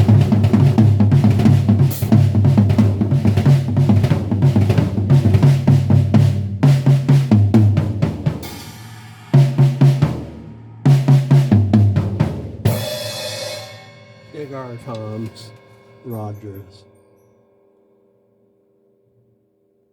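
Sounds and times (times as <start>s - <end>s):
tom-toms played in fills: 0.0s - 17.0s.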